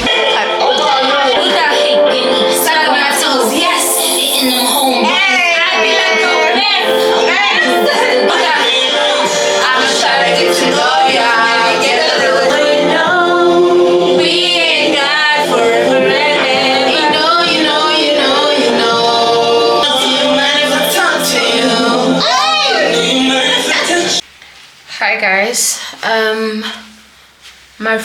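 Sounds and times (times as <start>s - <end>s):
song with singing voices: 0.0s - 24.2s.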